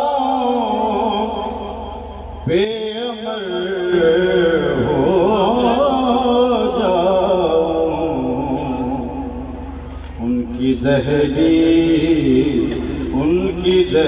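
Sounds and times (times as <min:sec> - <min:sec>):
man singing wavering melody: 0:00.0 - 0:14.0.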